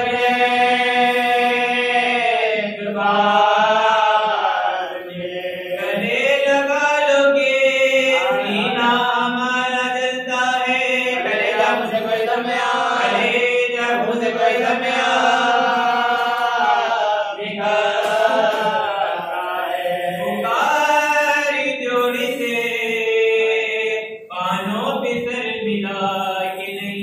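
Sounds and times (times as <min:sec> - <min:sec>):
man chanting: 0:00.0 - 0:27.0.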